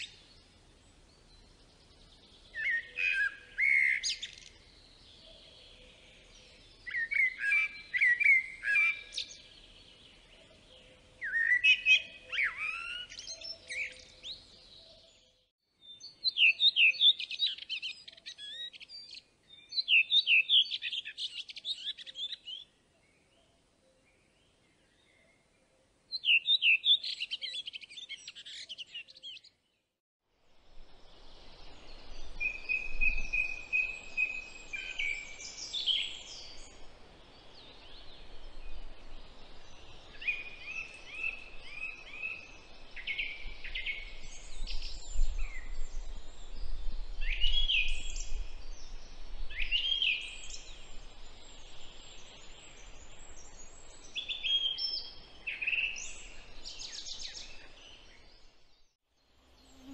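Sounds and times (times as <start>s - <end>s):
songbirds singing: 0.0s - 29.9s, 30.8s - 59.9s.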